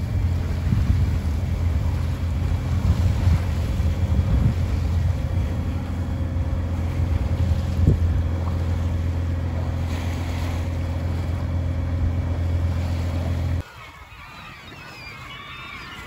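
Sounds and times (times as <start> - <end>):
boat engine humming: 0.0 - 16.0
gulls calling faintly: 0.0 - 16.0
water: 0.0 - 16.0
wind: 0.0 - 16.0.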